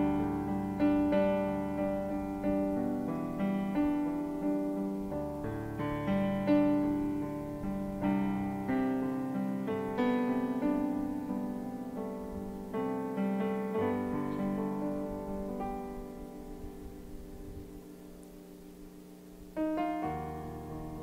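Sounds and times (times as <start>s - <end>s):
piano keyboard slow chords: 0.0s - 21.0s.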